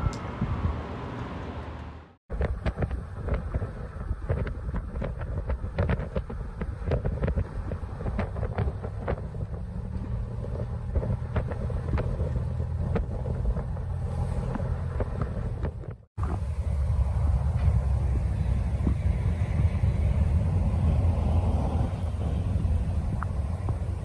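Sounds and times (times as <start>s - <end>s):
wind buffeting microphone: 0.0s - 1.0s, 2.3s - 24.0s.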